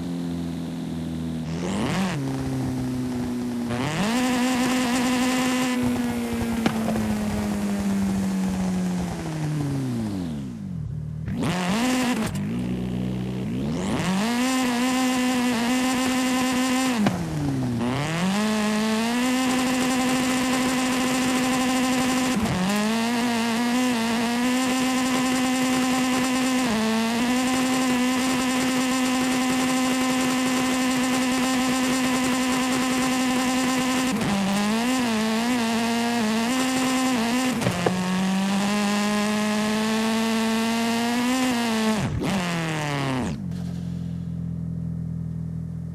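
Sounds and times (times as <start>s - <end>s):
video game car engine: 0.0s - 45.9s.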